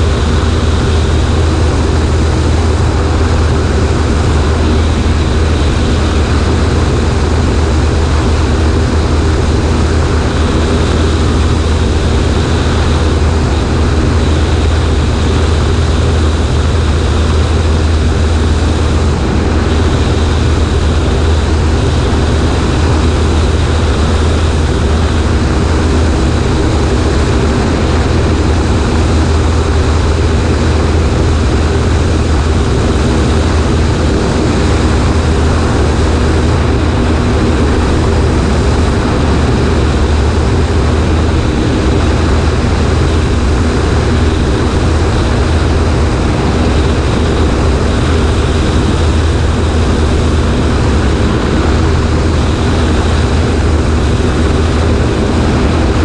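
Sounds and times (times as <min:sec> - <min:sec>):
airplane engine and propeller: 0:00.0 - 0:56.0
wind rush over microphone: 0:00.0 - 0:56.0.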